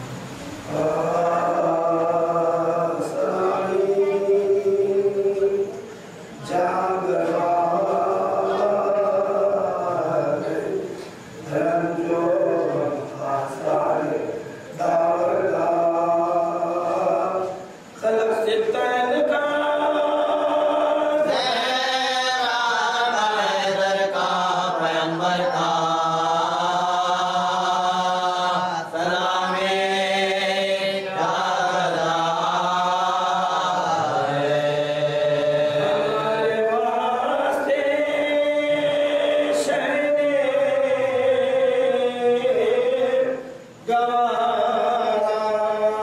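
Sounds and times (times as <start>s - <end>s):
man chanting a lament: 0.7s - 46.0s.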